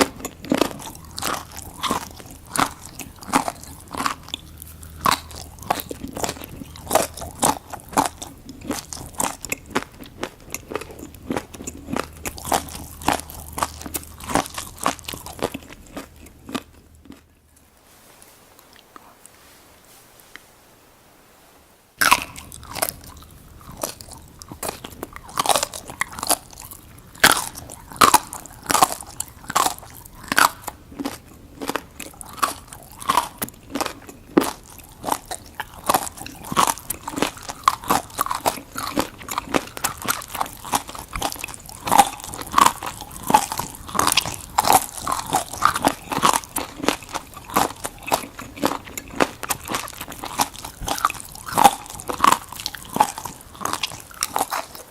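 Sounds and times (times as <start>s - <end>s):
seaweed being chewed: 0.0s - 20.5s, 22.0s - 54.9s.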